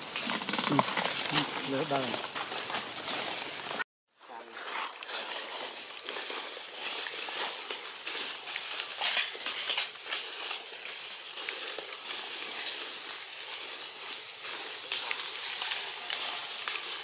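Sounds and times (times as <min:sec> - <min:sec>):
leaves rustling and crackling: 0:00.0 - 0:17.0.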